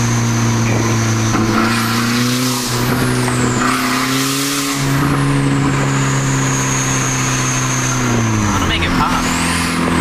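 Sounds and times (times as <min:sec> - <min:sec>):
car engine droning: 0:00.0 - 0:10.0
loud car exhaust: 0:00.0 - 0:10.0.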